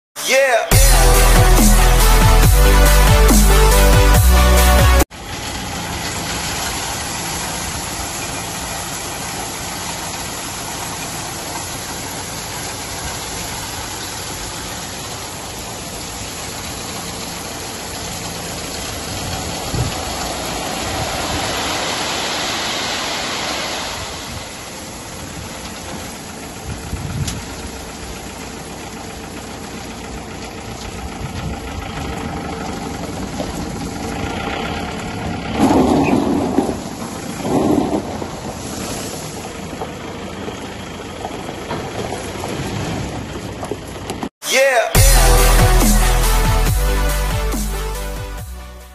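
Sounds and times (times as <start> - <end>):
tractor diesel engine running: 0.7 - 44.3, 45.0 - 48.9.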